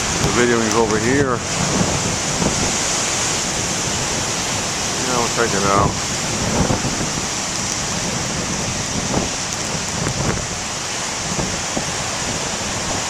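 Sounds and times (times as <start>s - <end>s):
ocean waves breaking: 0.0s - 13.0s
wind on microphone: 0.0s - 13.0s.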